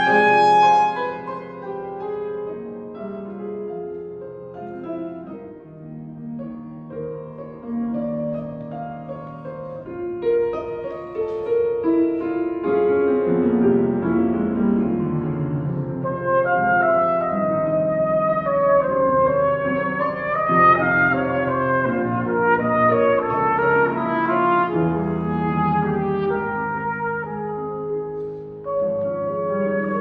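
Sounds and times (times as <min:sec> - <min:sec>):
grand piano playing: 0:00.0 - 0:30.0.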